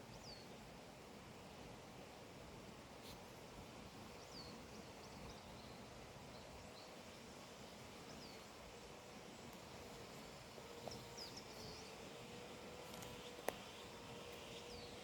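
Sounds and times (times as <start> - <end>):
quiet steady hiss: 0.0 - 15.0.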